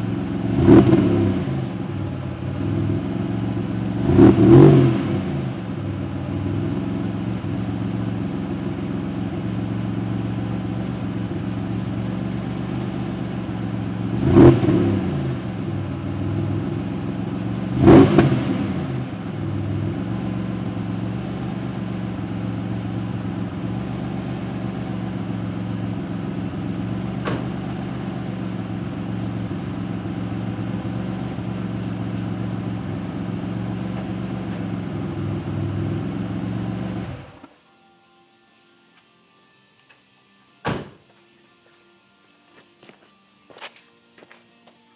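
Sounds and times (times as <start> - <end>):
car engine idling and revving: 0.0 - 37.5.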